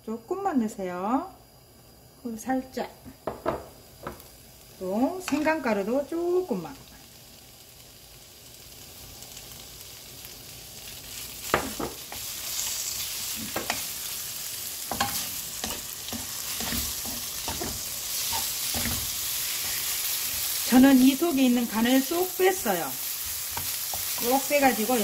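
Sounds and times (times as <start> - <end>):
food sizzling in oil: 2.2 - 25.0.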